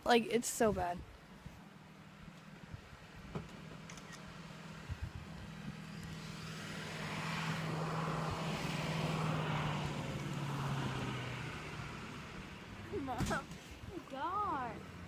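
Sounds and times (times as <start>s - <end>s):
engine passing by: 2.9s - 15.0s.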